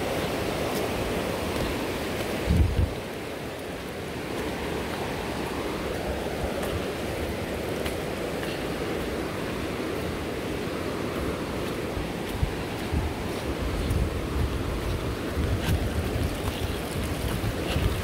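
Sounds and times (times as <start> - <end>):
floodwater rushing: 0.0 - 18.0
wind buffeting microphone: 0.0 - 18.0.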